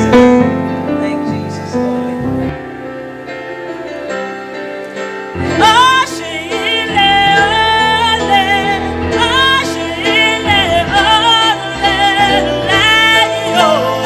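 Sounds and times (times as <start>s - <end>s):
person singing gospel song: 0.0s - 3.2s, 5.4s - 14.0s.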